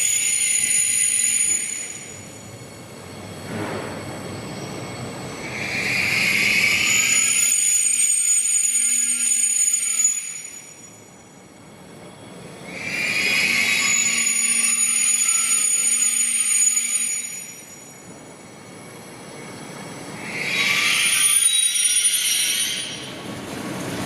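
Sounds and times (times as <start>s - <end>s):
train brakes squealing: 0.0s - 24.0s.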